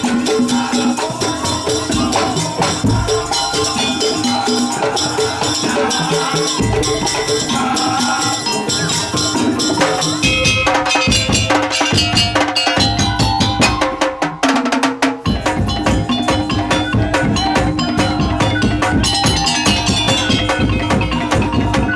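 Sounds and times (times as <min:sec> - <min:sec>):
percussion ensemble fast beat: 0:00.0 - 0:21.9.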